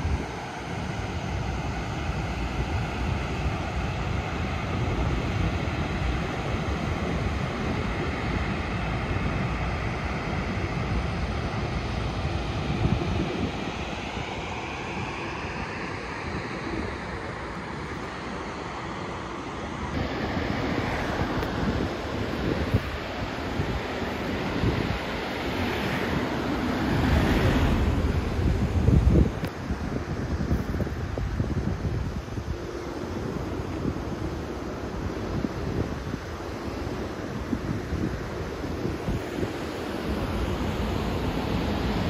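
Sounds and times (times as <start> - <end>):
wind buffeting microphone: 0.0 - 18.0, 19.9 - 42.0
water rushing over spillway: 0.0 - 42.0.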